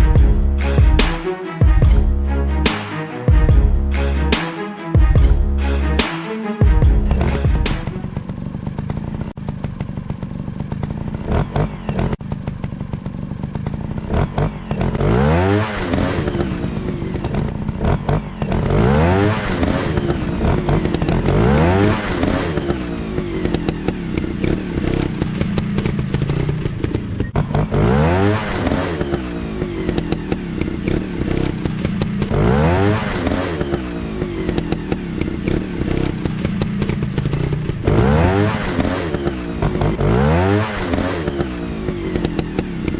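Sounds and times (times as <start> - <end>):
dirt bike engines revving: 7.1 - 42.9.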